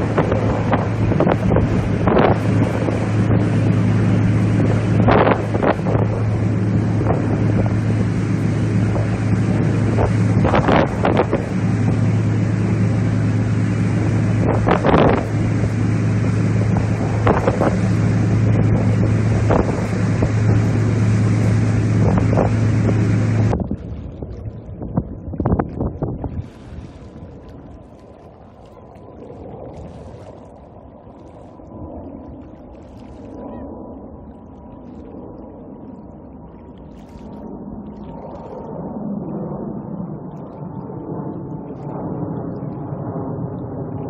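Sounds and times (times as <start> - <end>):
boat engine drone: 0.0 - 44.0
wind on microphone: 0.0 - 44.0.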